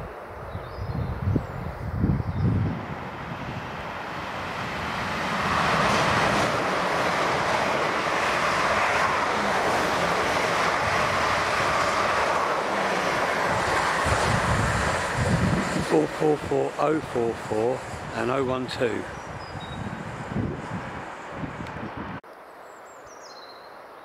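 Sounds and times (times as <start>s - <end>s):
train rushing past: 1.1s - 22.2s.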